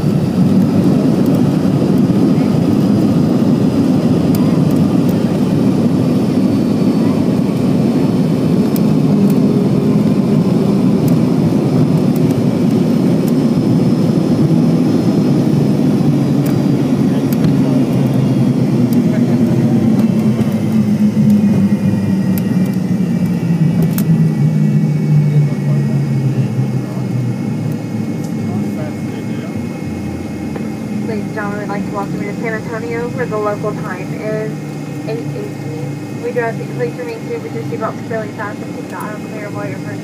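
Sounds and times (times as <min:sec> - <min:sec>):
jet engine cabin rumble: 0:00.0 - 0:40.0
low engine hum: 0:00.0 - 0:40.0.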